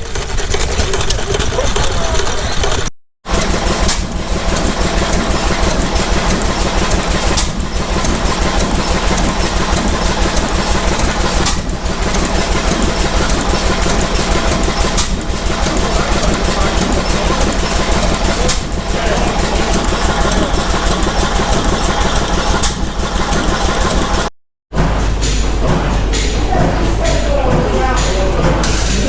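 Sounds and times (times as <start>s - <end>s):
stationary engine running: 0.0s - 29.0s.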